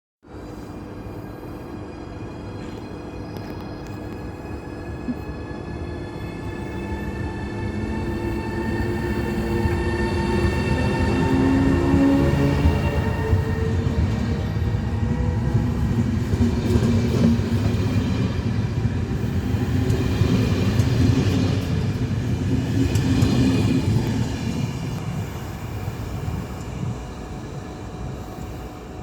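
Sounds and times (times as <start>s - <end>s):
train rumbling: 0.3s - 29.0s.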